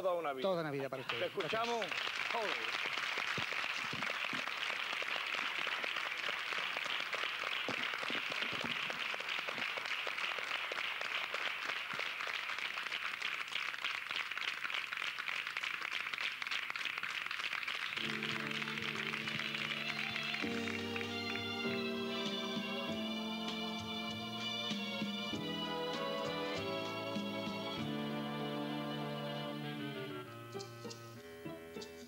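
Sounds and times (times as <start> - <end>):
crowd applauding: 0.9 - 29.6.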